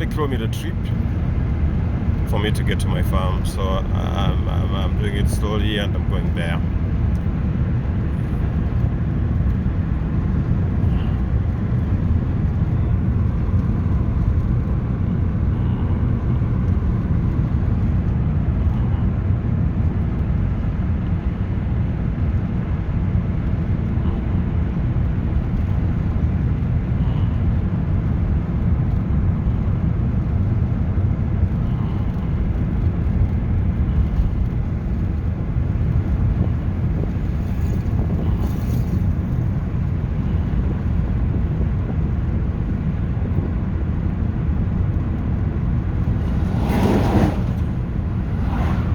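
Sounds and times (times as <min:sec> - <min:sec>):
car engine rumble: 0:00.0 - 0:48.9
road noise: 0:00.0 - 0:48.9.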